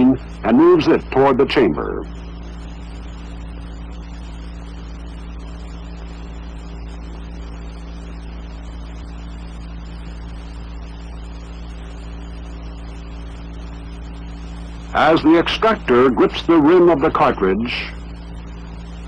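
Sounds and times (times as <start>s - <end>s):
film soundtrack hiss: 0.0s - 19.0s
low hum: 0.0s - 19.0s.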